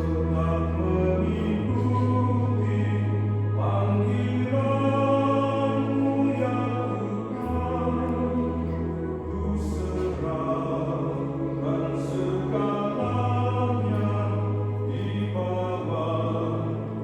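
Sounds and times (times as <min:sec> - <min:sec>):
choir singing a hymn: 0:00.0 - 0:17.0
held low bass notes: 0:00.0 - 0:17.0.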